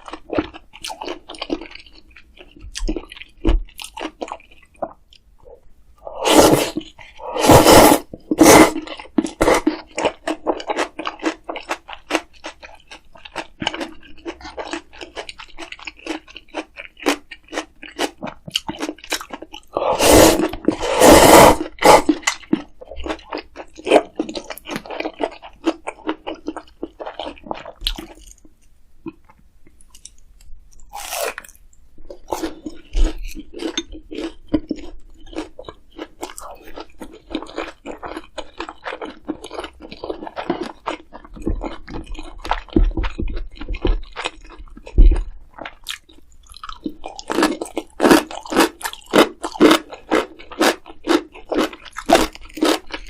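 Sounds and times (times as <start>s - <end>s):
chewing crunchy food: 0.0s - 53.0s.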